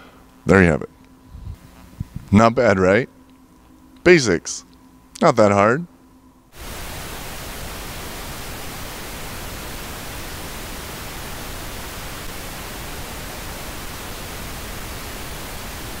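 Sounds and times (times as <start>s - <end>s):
steady static hiss: 0.0s - 16.0s.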